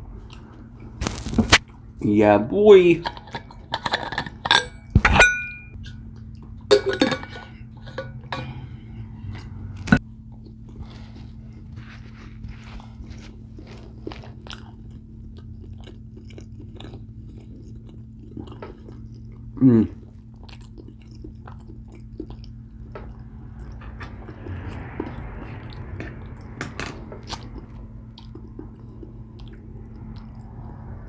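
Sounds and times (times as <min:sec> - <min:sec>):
chewing and crunching food: 0:00.0 - 0:02.0, 0:05.7 - 0:31.0
low steady hum: 0:00.0 - 0:31.0.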